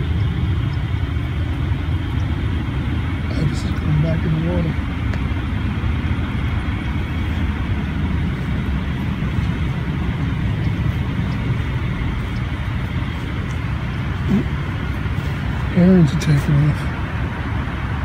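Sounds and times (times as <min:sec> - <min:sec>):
low rumble of motor vehicles: 0:00.0 - 0:18.0.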